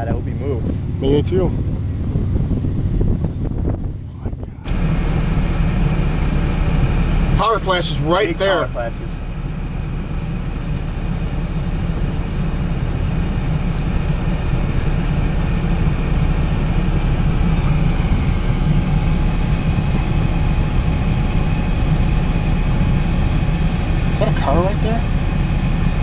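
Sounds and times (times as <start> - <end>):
vehicle cabin rumble: 0.0 - 26.0.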